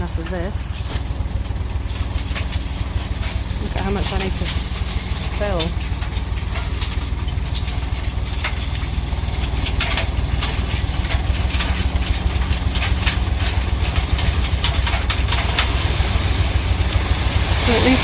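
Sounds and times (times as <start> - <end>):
sharp clicks and clatters: 0.0 - 18.0
truck diesel engine rumbling: 0.0 - 18.0.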